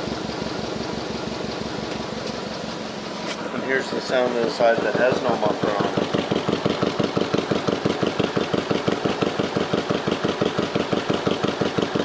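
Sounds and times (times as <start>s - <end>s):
engine idling with open exhaust: 0.0s - 12.0s.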